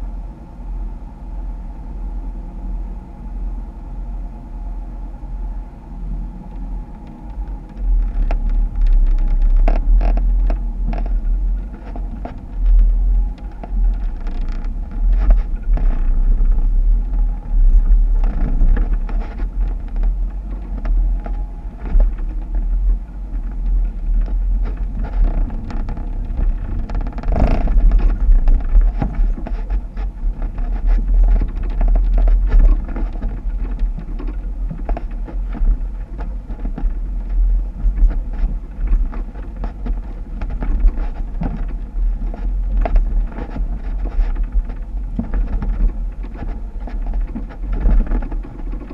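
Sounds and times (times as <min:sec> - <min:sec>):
off-road vehicle rumble: 0:00.0 - 0:48.9.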